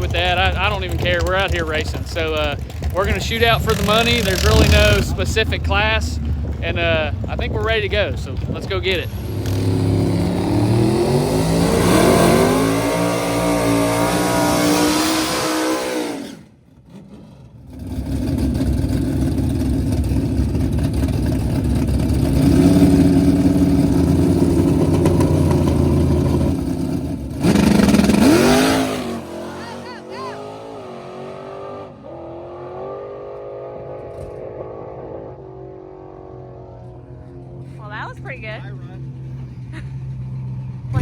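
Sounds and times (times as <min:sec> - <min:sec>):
race car engine at full throttle: 0:00.0 - 0:41.0.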